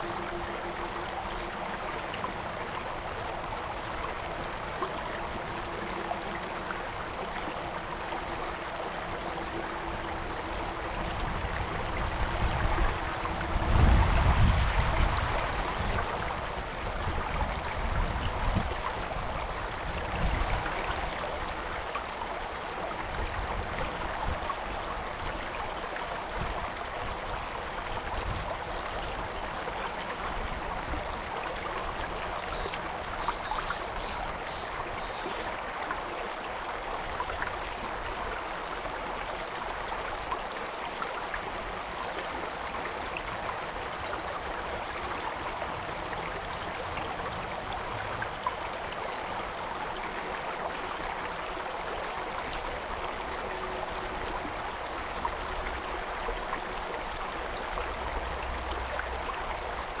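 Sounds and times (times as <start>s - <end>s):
stream babbling over rocks: 0.0s - 60.0s.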